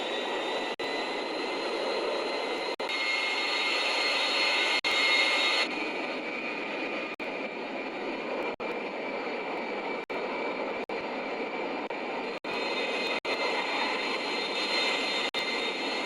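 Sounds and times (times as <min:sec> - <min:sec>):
airplane engine rush and whine: 0:00.0 - 0:16.0.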